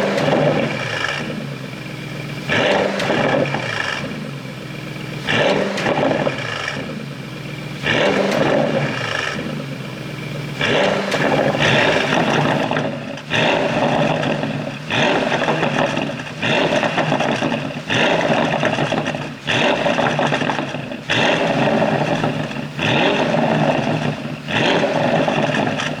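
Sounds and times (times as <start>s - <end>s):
car engine revving: 0.0s - 26.0s
exhaust pops and crackles: 0.0s - 26.0s.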